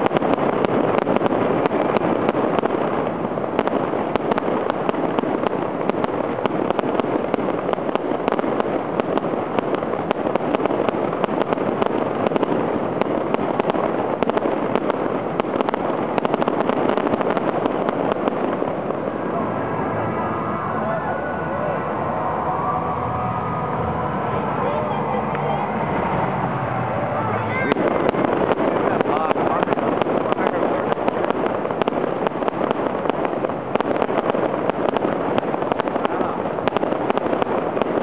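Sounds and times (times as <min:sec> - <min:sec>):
fireworks crackling and bursting: 0:00.0 - 0:38.0.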